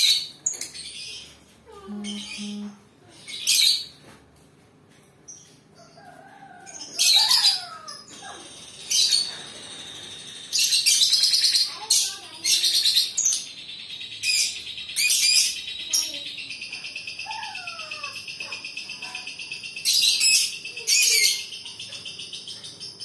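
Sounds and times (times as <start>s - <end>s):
lovebird chirping: 0.0s - 3.9s, 6.8s - 23.0s.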